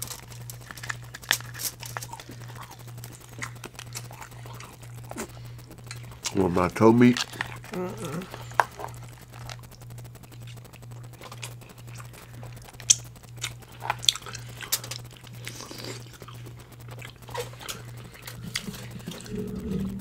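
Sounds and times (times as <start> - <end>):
crab shell cracking: 0.0 - 6.4, 7.0 - 20.0
chewing: 0.0 - 20.0
steady low hum: 0.0 - 20.0.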